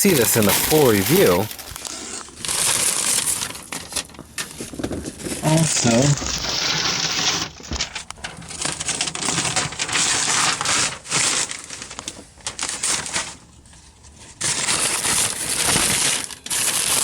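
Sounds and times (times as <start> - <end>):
paper crinkling and crackling: 0.0 - 17.0.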